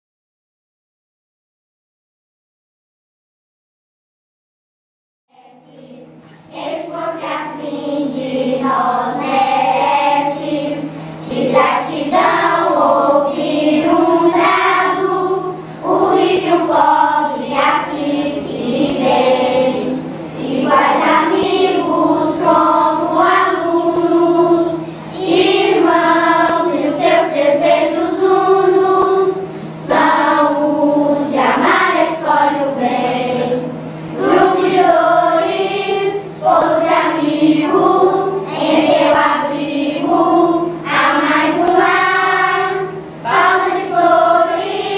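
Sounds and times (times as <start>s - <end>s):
choir singing: 5.3s - 44.9s
low hum: 5.4s - 44.9s.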